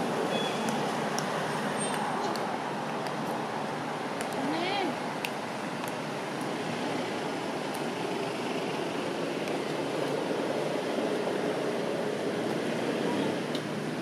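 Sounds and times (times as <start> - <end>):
outdoor background hiss and rumble: 0.0 - 14.0.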